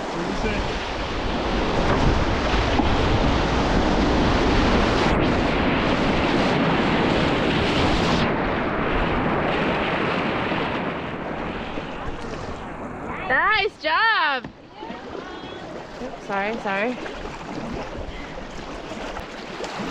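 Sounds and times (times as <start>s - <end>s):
whitewater rushing and crashing: 0.0s - 19.9s.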